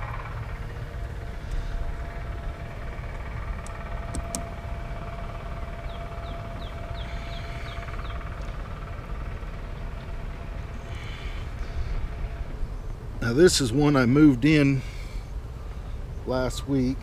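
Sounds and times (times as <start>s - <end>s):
bees humming: 0.0s - 16.0s
low rumble: 0.0s - 16.2s.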